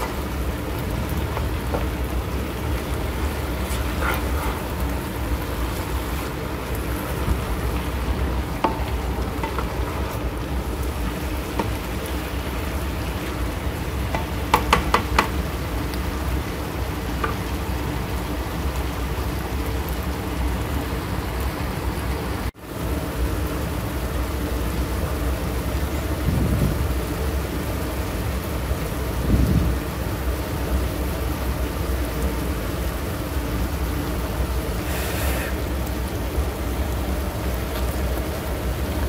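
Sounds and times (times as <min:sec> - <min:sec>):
vegetables sizzling in skillet: 0:00.0 - 0:20.5, 0:27.0 - 0:39.0.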